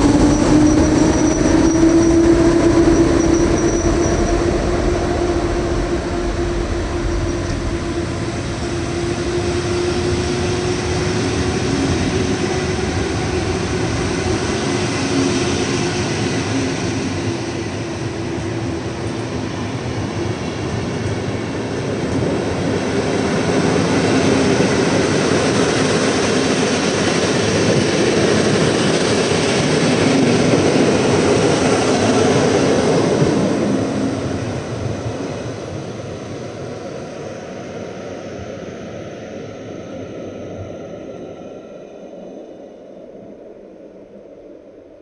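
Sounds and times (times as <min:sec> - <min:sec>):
train wheels rumbling on rails: 0:00.0 - 0:42.2.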